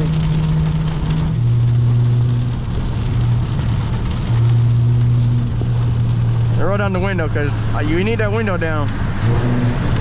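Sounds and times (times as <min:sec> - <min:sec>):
car engine droning: 0:00.0 - 0:10.0
heavy rain on a car: 0:00.0 - 0:10.0.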